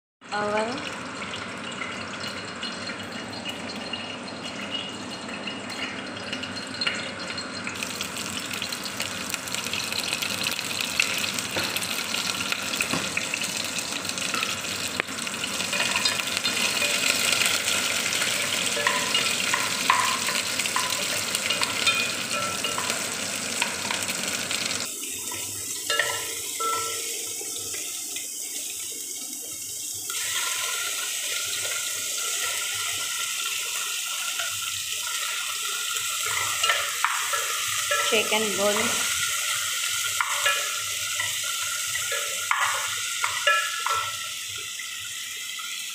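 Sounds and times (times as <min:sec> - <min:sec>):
water splashing into a pot: 0:00.5 - 0:45.9.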